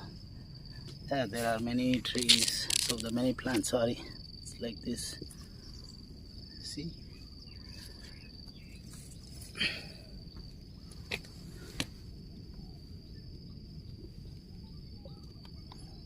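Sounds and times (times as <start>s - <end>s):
insects high-pitched drone: 0.0s - 16.0s.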